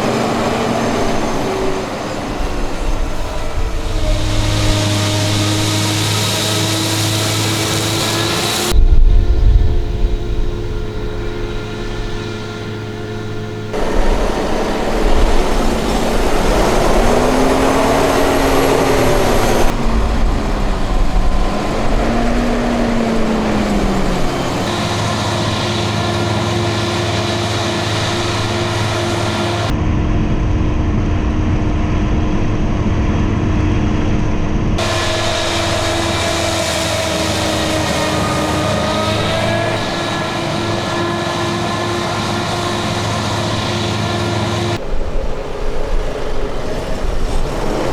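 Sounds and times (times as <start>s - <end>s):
diesel engines droning under load: 0.0s - 47.9s.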